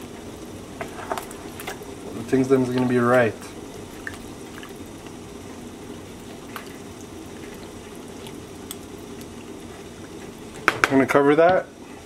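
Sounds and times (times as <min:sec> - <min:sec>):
soup bubbling in a pot: 0:00.0 - 0:12.0
wooden spoon stirring soup: 0:00.1 - 0:10.8.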